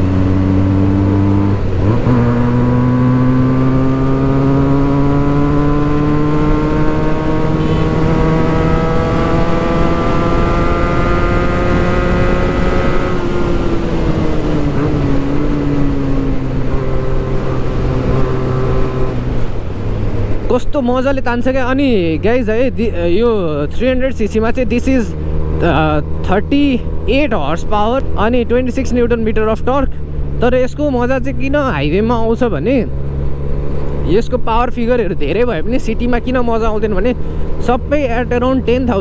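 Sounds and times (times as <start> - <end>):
motorcycle engine at speed: 0.0 - 39.0
wind and road noise: 0.0 - 39.0.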